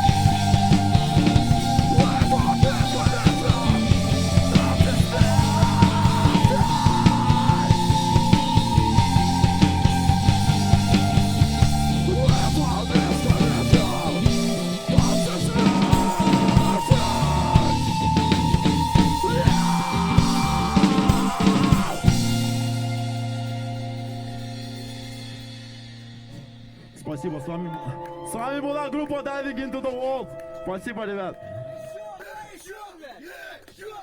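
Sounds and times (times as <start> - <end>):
live rock band playing: 0.0 - 28.6.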